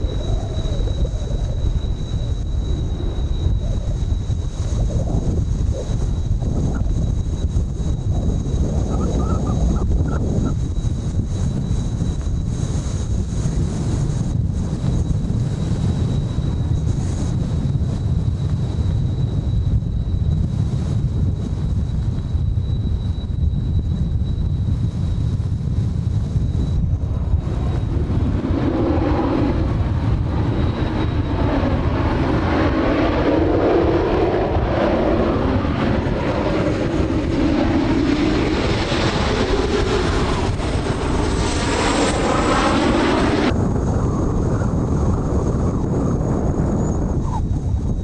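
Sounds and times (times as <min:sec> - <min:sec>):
jet aircraft flying overhead: 0:00.0 - 0:48.0
wind rumble on microphone: 0:00.0 - 0:48.0.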